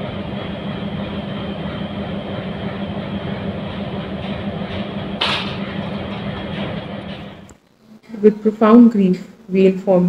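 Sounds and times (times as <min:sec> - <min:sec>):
locomotive machinery humming: 0:00.0 - 0:09.7.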